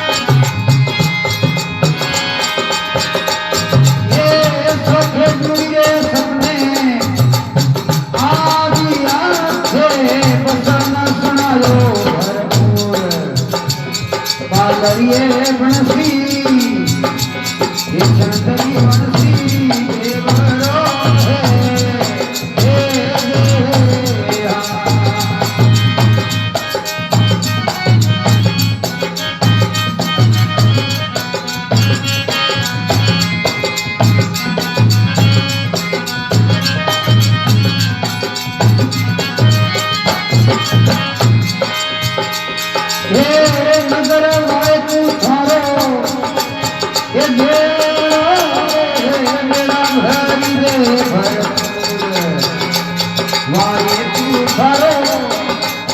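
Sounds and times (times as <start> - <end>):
held melodic instrumental tones: 0.0 - 55.9
rattling percussion: 0.0 - 55.9
steady drum beat: 0.0 - 55.9
person singing: 1.5 - 7.4, 8.1 - 29.2, 34.4 - 55.9.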